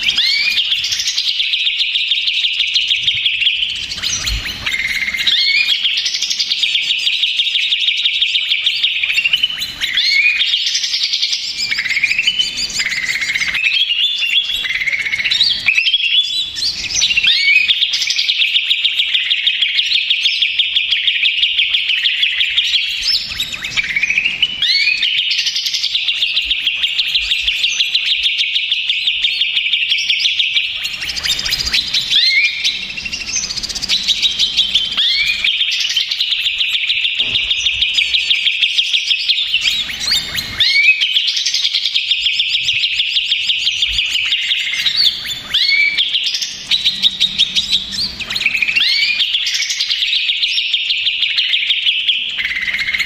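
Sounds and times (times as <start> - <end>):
bird singing rapid trills: 0.0 - 53.0.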